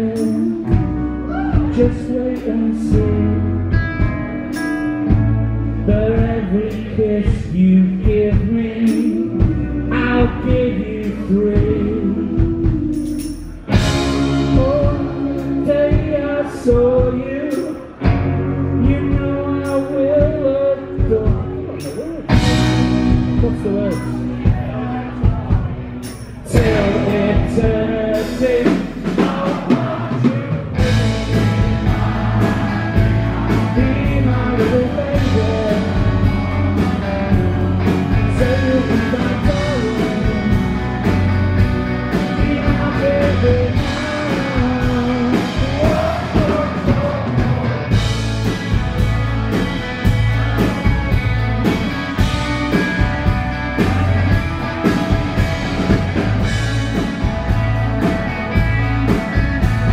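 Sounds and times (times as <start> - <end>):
steady drum beat: 0.0 - 2.2, 2.8 - 59.9
bass guitar: 0.0 - 59.9
electric guitar: 0.0 - 59.9.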